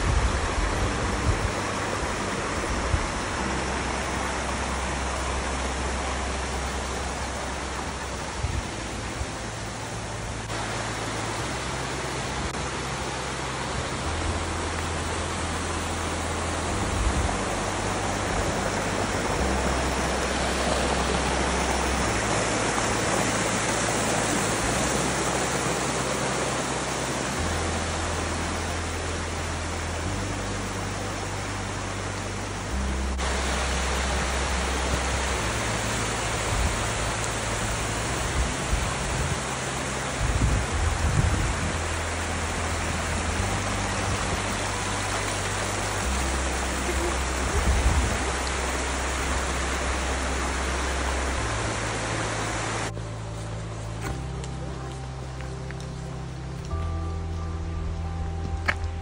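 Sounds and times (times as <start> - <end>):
creek splashing over rocks: 0.0 - 57.4.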